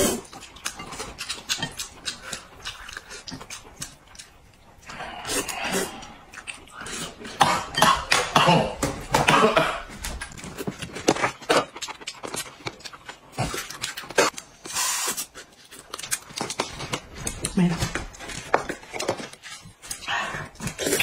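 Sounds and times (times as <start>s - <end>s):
chewing and slurping: 0.0s - 8.3s, 9.4s - 21.0s.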